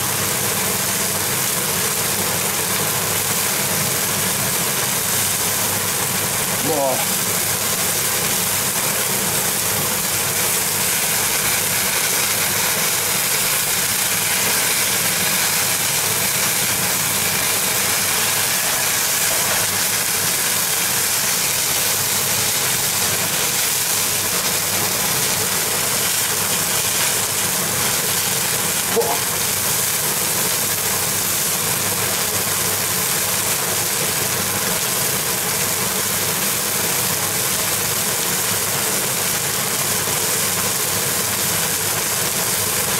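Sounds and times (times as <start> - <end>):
meat sizzling on a grill: 0.0 - 42.9.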